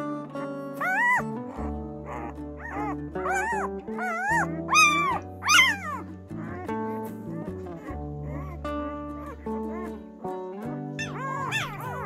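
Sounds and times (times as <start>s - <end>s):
background music: 0.0s - 12.0s
puppy squealing: 0.4s - 10.0s, 11.0s - 12.0s.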